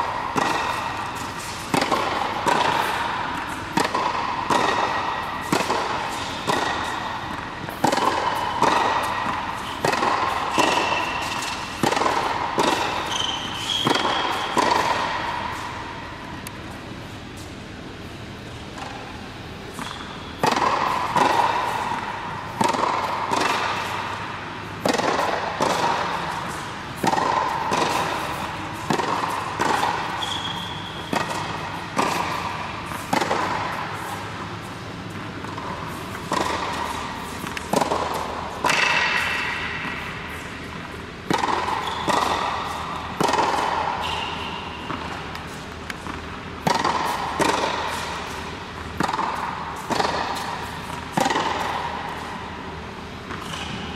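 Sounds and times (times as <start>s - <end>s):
tennis balls bouncing on hard court: 0.0s - 53.9s
tennis balls struck by rackets: 0.0s - 53.9s.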